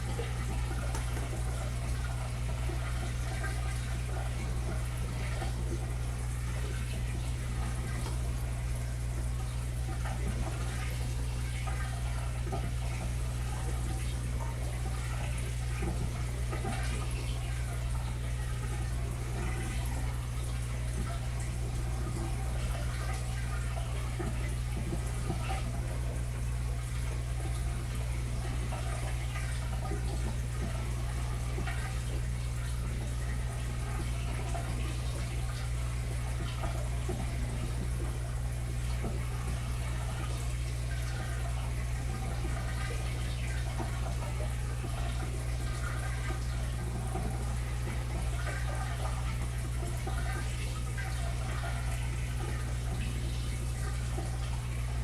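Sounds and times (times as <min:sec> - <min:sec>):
aquarium pump hum: 0:00.0 - 0:55.0
water trickling and splashing: 0:00.0 - 0:55.0.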